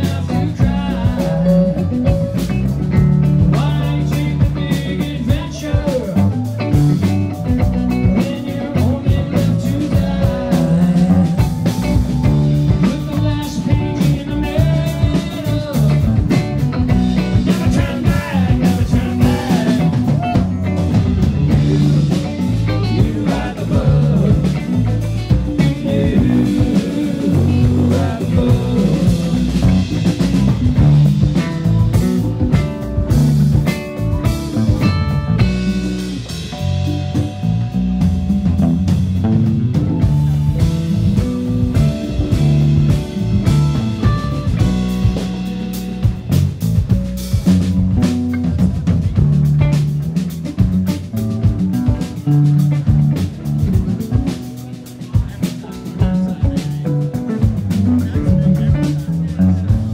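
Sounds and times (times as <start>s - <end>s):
drum kit: 0.0s - 59.9s
electric guitar: 0.0s - 59.9s.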